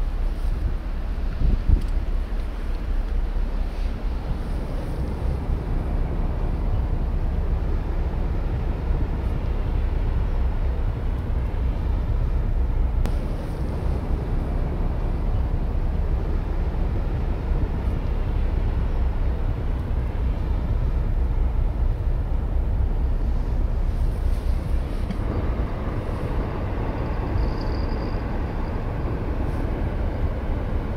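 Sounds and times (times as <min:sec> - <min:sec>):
ship engines rumbling: 0:00.0 - 0:30.9.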